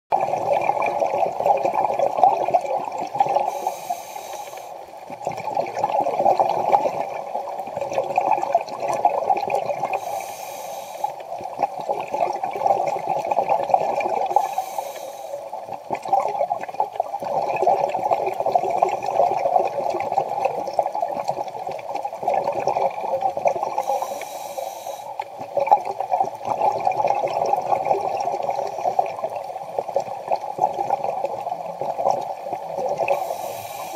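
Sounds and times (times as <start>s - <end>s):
exhaled bubbles rumbling: 0.1s - 3.7s, 4.9s - 10.1s, 11.2s - 14.6s, 15.5s - 24.1s, 25.2s - 33.9s.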